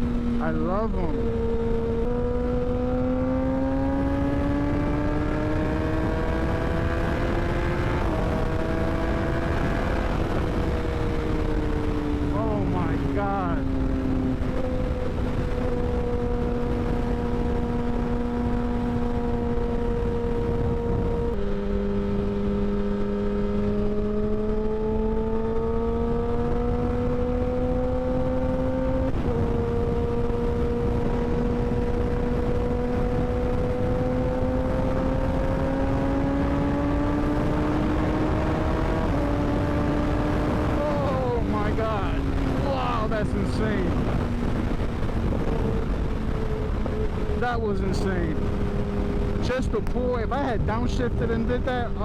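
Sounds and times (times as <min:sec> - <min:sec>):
motorcycle engine revving high: 0:00.0 - 0:52.0
wind rumble: 0:00.0 - 0:52.0.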